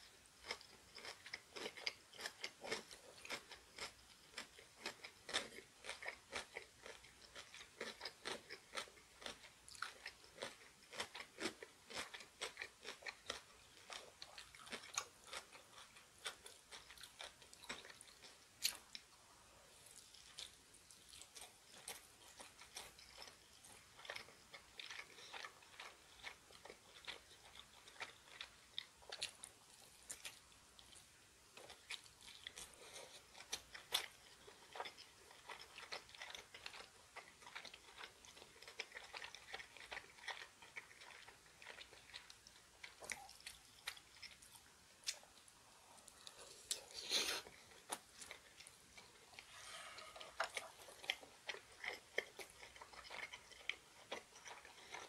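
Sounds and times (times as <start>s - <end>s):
chewing food with wet crunches: 0.0s - 55.0s.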